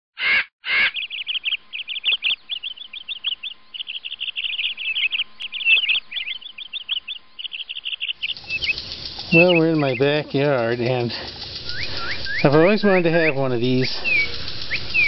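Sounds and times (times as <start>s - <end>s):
birds chirping: 0.2s - 15.0s
short bursts of noise: 0.2s - 15.0s.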